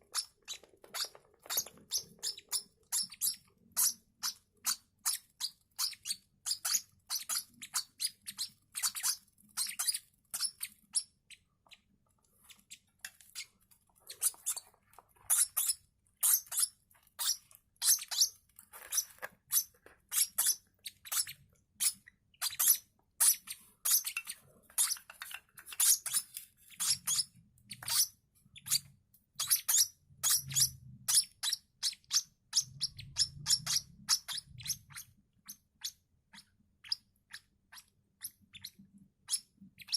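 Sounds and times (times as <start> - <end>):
bird chicks peeping: 0.0 - 39.9.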